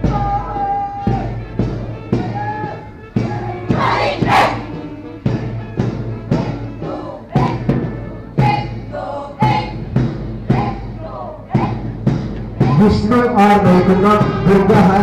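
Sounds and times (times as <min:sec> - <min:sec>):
march drum beat: 0:00.0 - 0:15.0.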